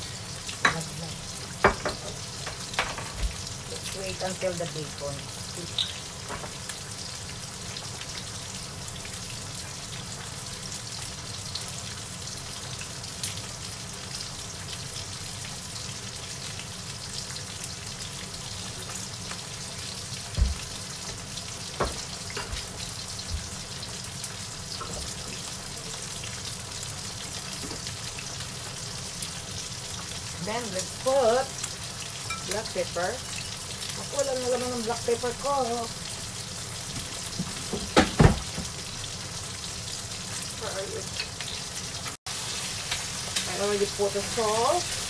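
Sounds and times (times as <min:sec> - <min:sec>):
bacon sizzling in a wok: 0:00.0 - 0:45.0.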